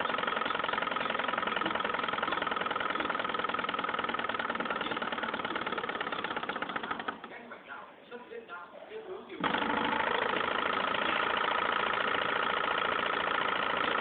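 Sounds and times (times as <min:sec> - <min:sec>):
model engine clattering: 0:00.0 - 0:07.3, 0:09.4 - 0:14.0
steady mechanical whine: 0:00.0 - 0:07.3, 0:09.4 - 0:14.0.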